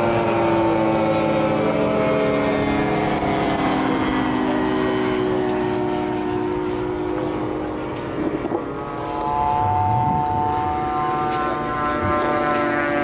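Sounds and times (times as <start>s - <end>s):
model airplane engines: 0.0s - 13.0s.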